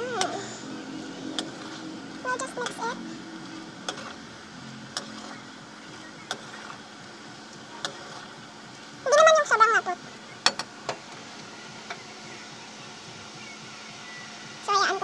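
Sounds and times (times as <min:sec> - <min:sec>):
syrup simmering: 0:00.0 - 0:14.7
gas burner hiss: 0:00.0 - 0:15.0.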